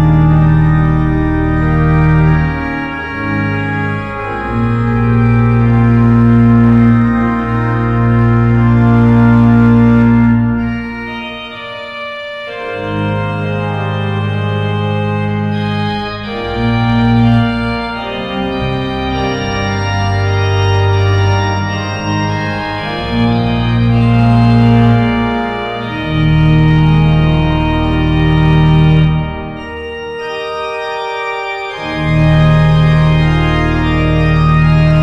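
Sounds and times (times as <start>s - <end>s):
deep organ pedal bass: 0.0s - 35.0s
pipe organ sustained chords: 0.0s - 35.0s.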